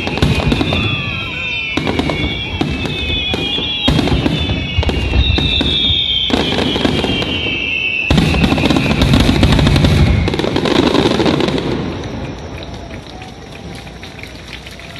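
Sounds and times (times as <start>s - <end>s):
firework bursts crackling: 0.0s - 14.9s.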